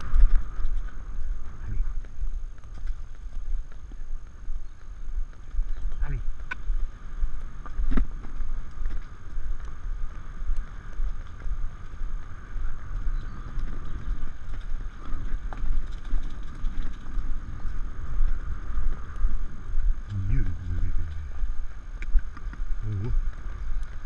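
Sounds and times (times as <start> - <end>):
horse hoofbeats galloping: 0.0 - 24.0
wind rumbling on microphone: 0.0 - 24.0.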